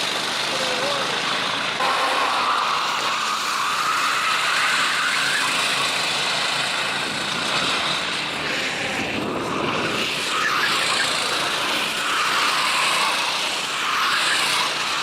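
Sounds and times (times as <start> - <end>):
racing kart engines running: 0.0 - 15.0.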